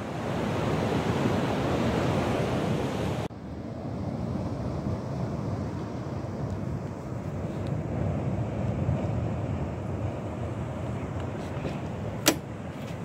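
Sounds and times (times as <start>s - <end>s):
surf washing on a beach: 0.0s - 13.0s
wind buffeting microphone: 0.0s - 13.0s.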